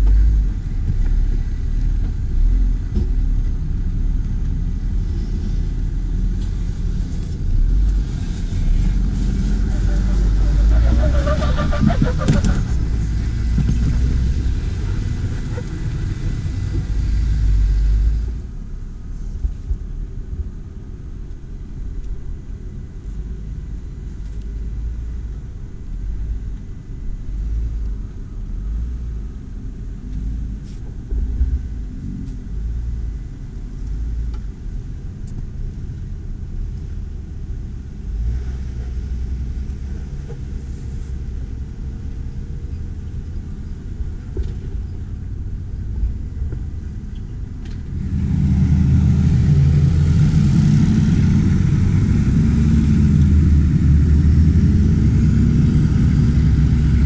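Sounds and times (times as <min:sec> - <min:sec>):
engine rumbling under throttle: 0:00.0 - 0:57.0.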